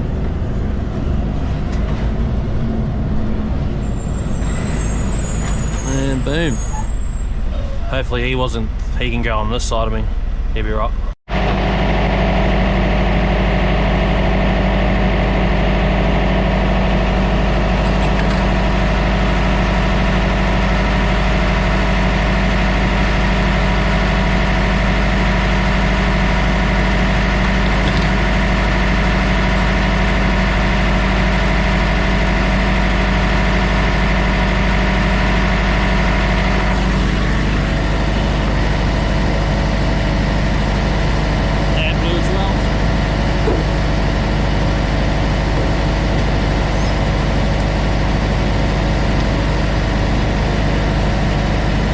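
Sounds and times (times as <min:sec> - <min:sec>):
diesel truck engine droning: 0:00.0 - 0:51.9.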